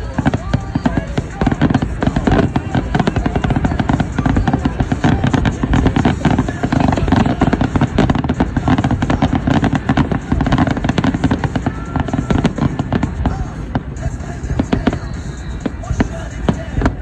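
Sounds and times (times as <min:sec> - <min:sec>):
crackling firework stars: 0:00.0 - 0:17.0
firework shell bursts: 0:00.0 - 0:17.0.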